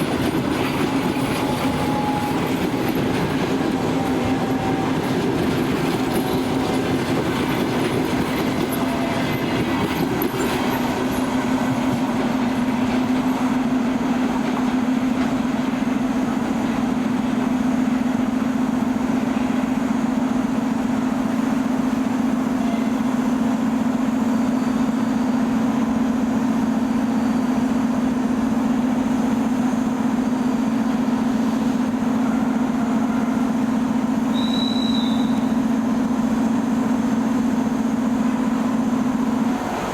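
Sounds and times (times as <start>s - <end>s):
train running on track: 0.0s - 39.9s.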